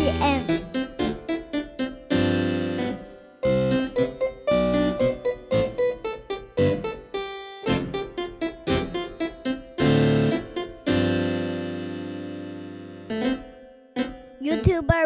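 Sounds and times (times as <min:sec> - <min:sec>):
piano piece: 0:00.0 - 0:15.0.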